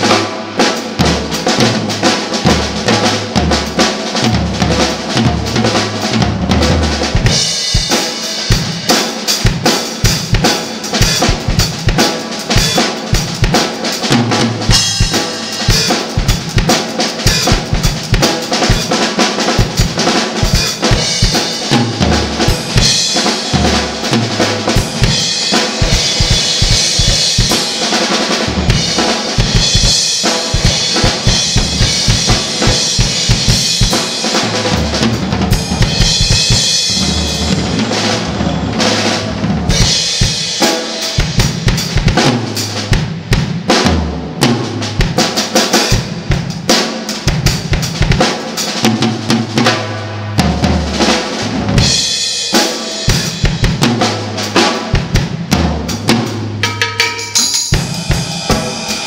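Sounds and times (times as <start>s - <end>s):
drum kit playing fast groove: 0.0s - 59.0s.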